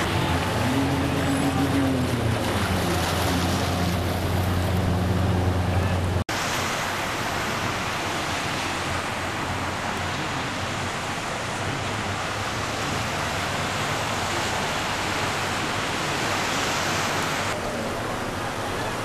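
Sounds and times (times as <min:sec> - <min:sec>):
heavy rain: 0:00.0 - 0:19.0
low engine hum: 0:00.0 - 0:19.0
running floodwater: 0:00.0 - 0:19.0.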